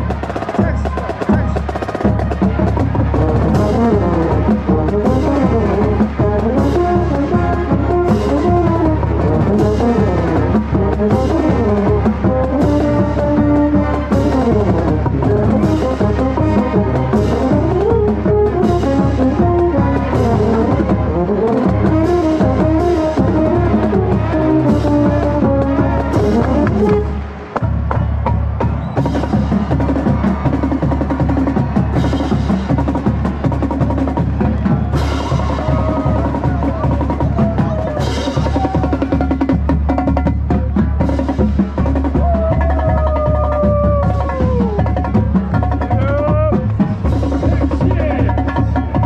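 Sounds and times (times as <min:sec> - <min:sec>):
marching band brass melody: 0:00.0 - 0:49.0
steady drum beat: 0:00.0 - 0:49.0.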